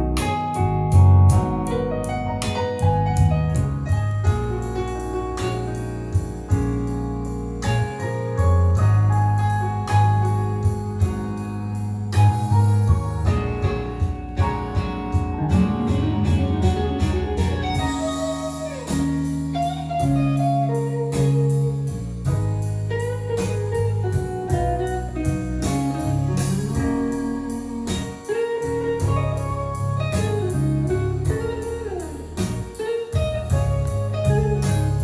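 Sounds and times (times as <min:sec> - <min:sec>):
recorded music over loudspeaker: 0:00.0 - 0:35.0.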